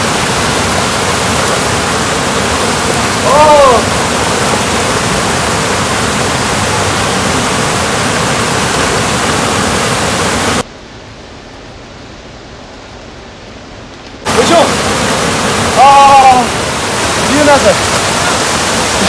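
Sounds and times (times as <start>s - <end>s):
water pouring over concrete spillways: 0.0s - 10.6s, 14.3s - 19.0s.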